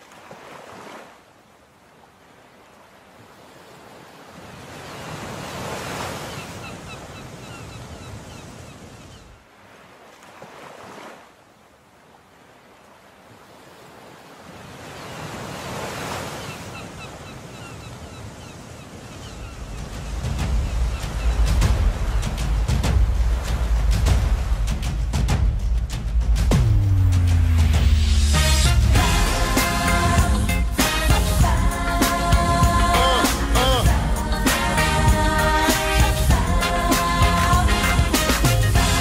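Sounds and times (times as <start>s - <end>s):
ocean waves breaking: 0.0s - 39.0s.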